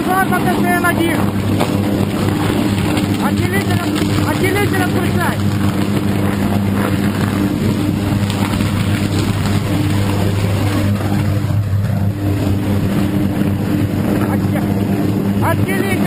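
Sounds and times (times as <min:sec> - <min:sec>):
electrical arc buzzing and hissing: 0:00.0 - 0:16.0.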